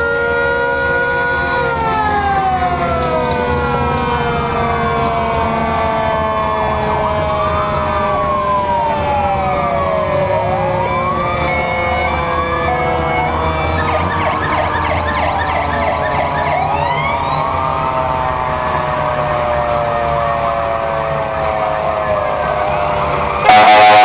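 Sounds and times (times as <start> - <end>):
emergency vehicle sirens wailing: 0.0 - 24.0
truck engines rumbling: 0.0 - 24.0.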